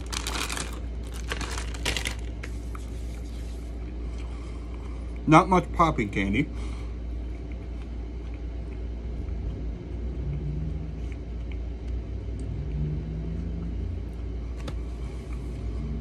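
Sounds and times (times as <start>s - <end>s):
man chewing cookie: 0.0s - 5.3s, 6.6s - 16.0s
steady low rumble: 0.0s - 16.0s.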